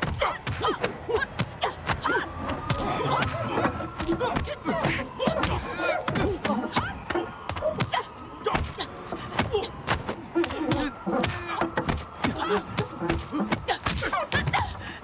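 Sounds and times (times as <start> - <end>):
fighters grunting and yelling: 0.0 - 15.0.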